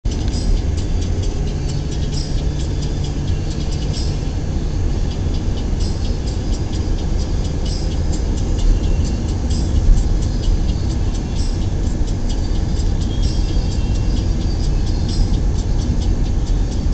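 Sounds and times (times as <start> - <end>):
engine and road noise rumble: 0.0 - 16.9
light ticks: 0.1 - 16.9.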